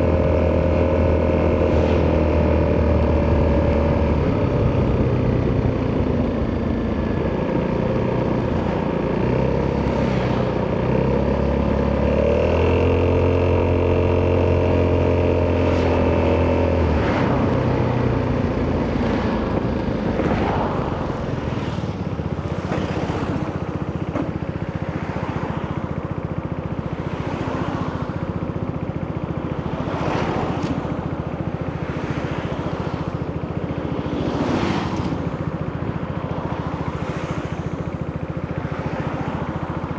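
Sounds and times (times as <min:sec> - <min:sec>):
motor scooter engine running: 0:00.0 - 0:39.9.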